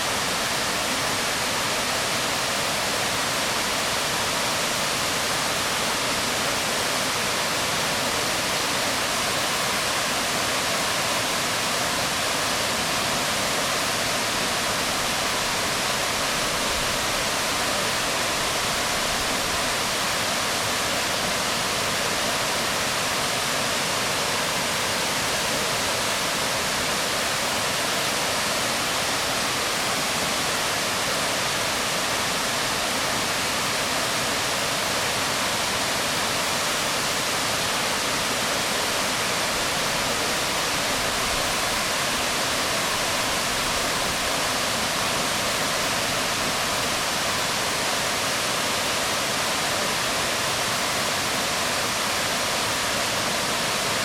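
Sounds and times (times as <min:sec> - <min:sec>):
waterfall onto rocks: 0:00.0 - 0:54.0.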